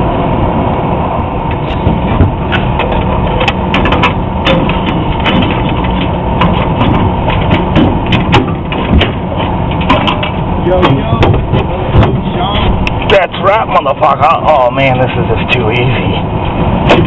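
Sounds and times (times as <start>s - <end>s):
loud rumbling noise: 0.0s - 17.0s.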